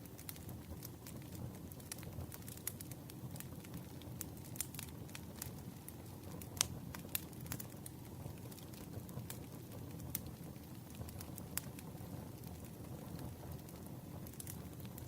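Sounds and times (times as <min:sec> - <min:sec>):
campfire crackling: 0:00.0 - 0:15.0
fire pops and snaps: 0:00.0 - 0:15.0.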